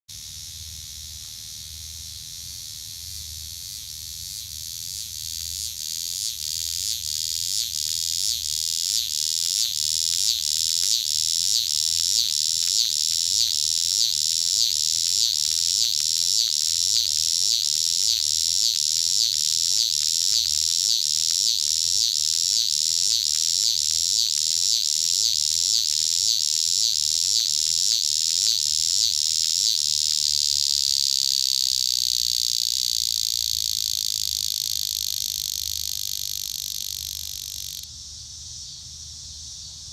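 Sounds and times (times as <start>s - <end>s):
cicada buzzing: 0.1s - 39.9s.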